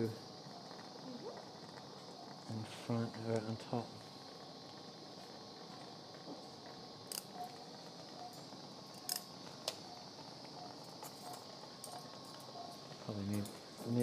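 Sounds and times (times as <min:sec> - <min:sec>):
operating room hum: 0:00.0 - 0:14.0.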